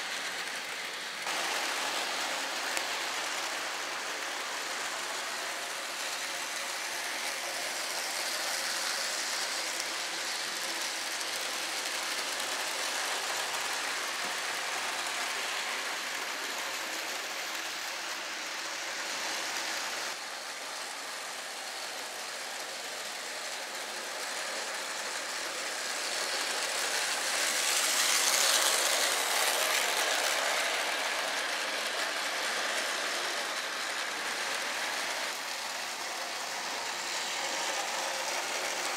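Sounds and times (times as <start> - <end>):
model trains whirring on rails: 0.0 - 38.9.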